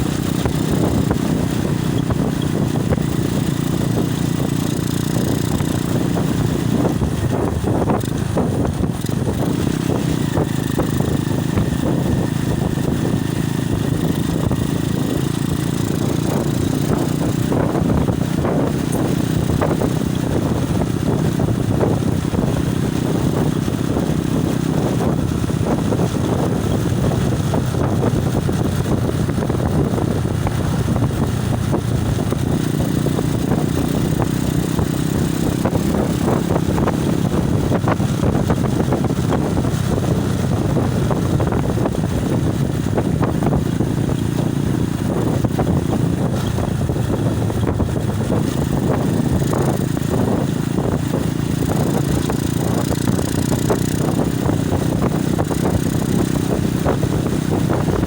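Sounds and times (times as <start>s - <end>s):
motorcycle ride rumble: 0.0s - 58.0s
wind buffeting microphone: 0.0s - 58.0s.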